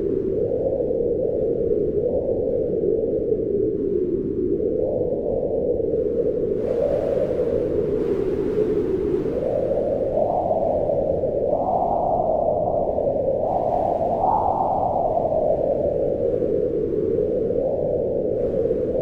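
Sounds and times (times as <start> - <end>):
wind howling: 0.0 - 19.0.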